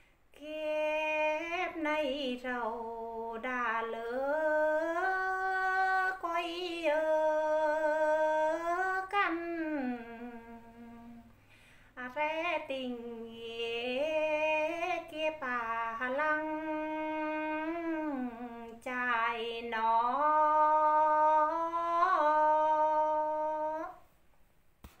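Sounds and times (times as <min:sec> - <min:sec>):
woman singing unaccompanied: 0:00.3 - 0:24.1.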